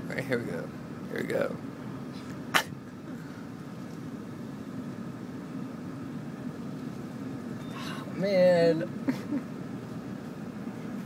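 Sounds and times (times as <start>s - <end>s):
car engine running low: 0.0s - 11.0s.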